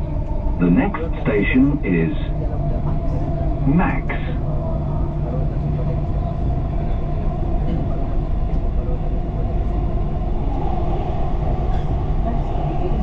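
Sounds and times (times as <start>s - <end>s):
constant hum: 0.0s - 13.0s
train rumble: 0.0s - 13.0s.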